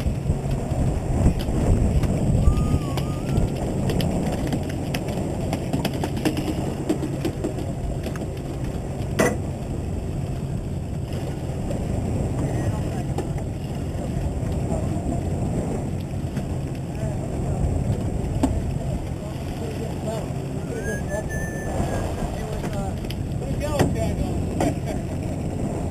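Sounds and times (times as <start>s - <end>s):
boat engine hum: 0.0s - 25.9s
wind noise on microphone: 0.0s - 25.9s.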